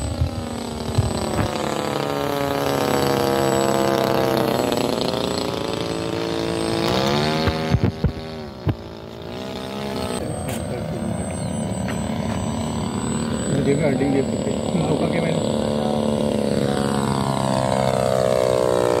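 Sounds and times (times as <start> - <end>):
model airplane engine in flight: 0.0 - 19.0.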